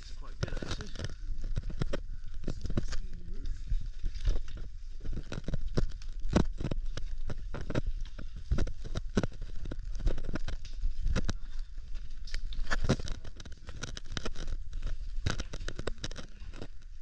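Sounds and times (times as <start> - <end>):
gear scraping against rock: 0.0 - 17.0.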